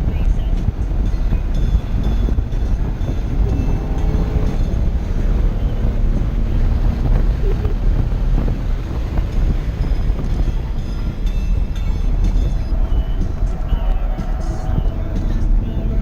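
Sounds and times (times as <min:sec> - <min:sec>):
race car engine rumble: 0:00.0 - 0:16.0.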